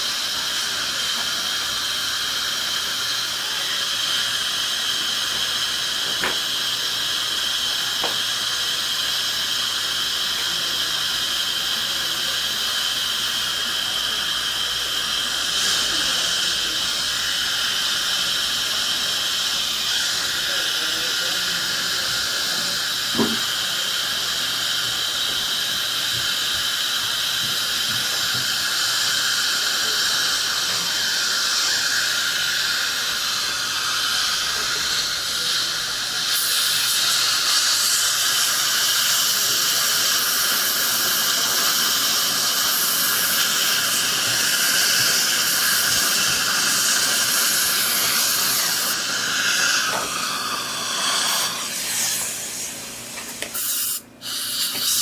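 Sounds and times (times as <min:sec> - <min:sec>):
dental suction hissing: 0:00.0 - 0:55.0.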